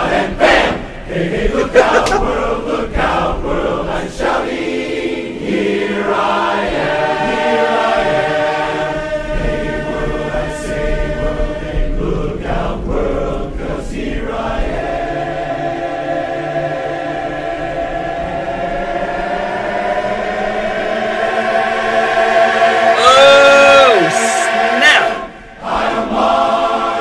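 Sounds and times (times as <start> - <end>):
men's chorus singing a cappella: 0.0 - 27.0.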